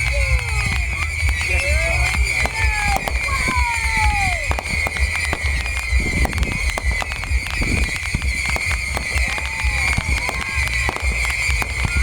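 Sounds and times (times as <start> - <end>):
firework whistles: 0.0 - 12.0
fireworks crackles and pops: 0.0 - 12.0
low rumble of booms: 0.0 - 12.0.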